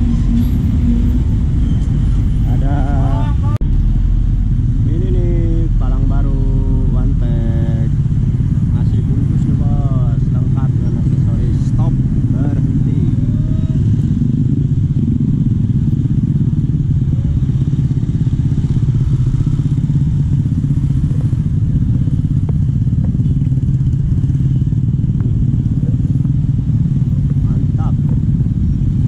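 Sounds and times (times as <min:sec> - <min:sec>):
motorcycles passing: 0:00.0 - 0:29.0.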